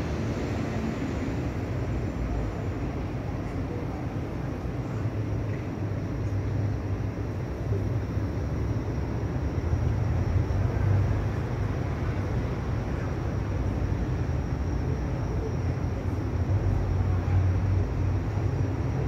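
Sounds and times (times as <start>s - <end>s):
city background hum: 0.0s - 19.0s.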